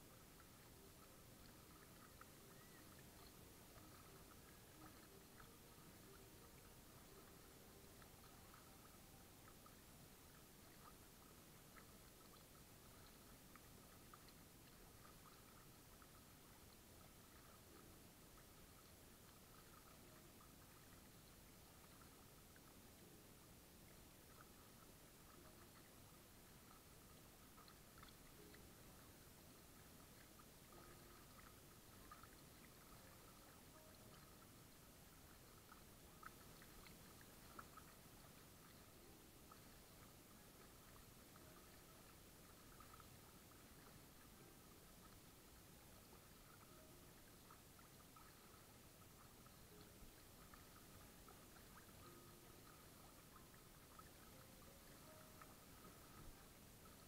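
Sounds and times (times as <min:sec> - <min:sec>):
small faint ticks: 0:00.0 - 0:57.0
water against kayak hull: 0:00.0 - 0:57.0.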